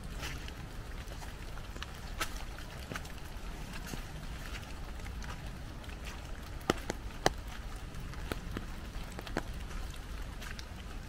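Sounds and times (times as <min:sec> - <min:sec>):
footsteps on leaf-covered path: 0:00.0 - 0:11.0
raindrops tapping on umbrella: 0:00.0 - 0:11.0.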